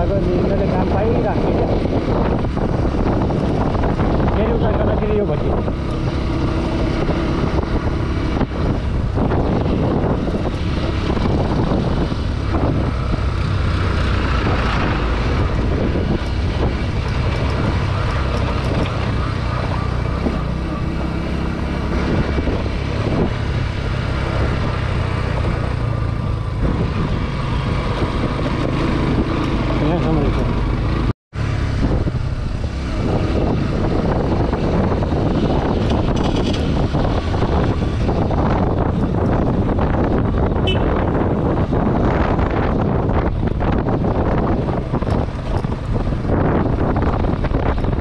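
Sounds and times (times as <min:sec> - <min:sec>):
motorcycle engine and road drone: 0:00.0 - 0:48.0.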